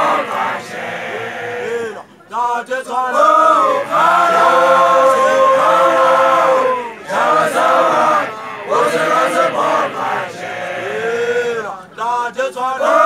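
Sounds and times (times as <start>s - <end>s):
group of men chanting: 0.0s - 13.0s.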